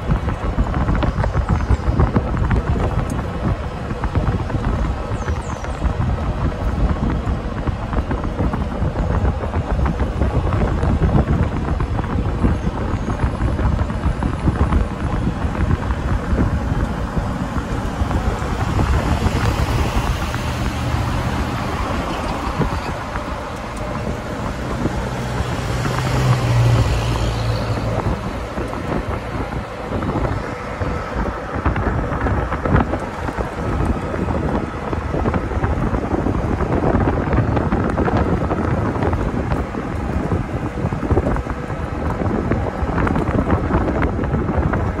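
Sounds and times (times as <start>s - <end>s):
truck towing trailer passing: 0.0s - 45.0s
tyres rumbling on road: 0.0s - 45.0s
wind buffeting microphone: 0.0s - 45.0s.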